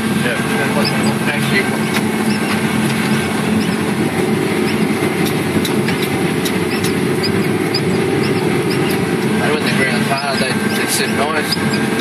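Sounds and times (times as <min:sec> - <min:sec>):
harvester engine drone: 0:00.0 - 0:12.0.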